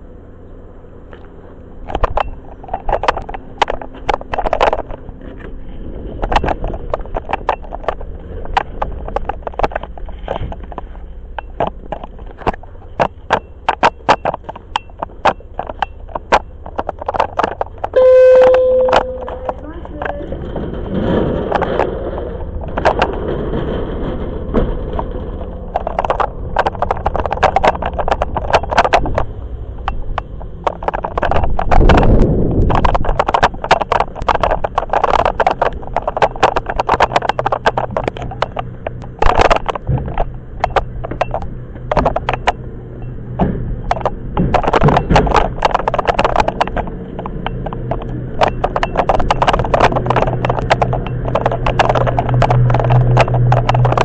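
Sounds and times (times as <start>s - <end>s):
low train hum and rumble: 0.0s - 54.0s.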